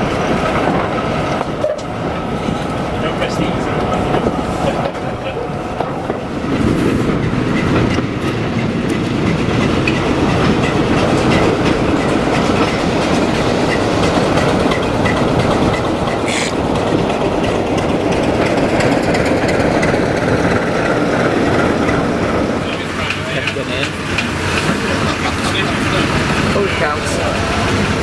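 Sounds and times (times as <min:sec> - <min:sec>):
train rumbling: 0:00.0 - 0:28.0
wheels clickety-clack on rail joints: 0:00.0 - 0:28.0.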